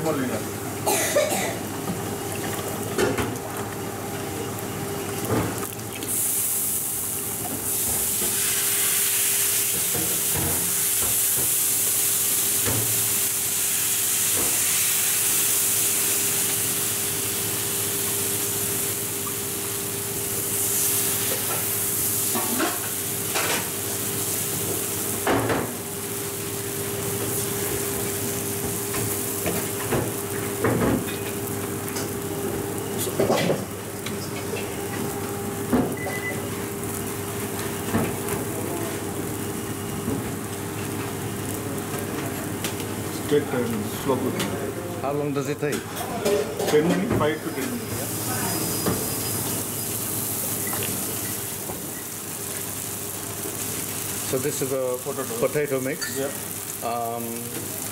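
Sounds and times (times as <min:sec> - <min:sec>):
batter sizzling on hot griddle: 0:03.7 - 0:44.3, 0:47.2 - 0:57.9.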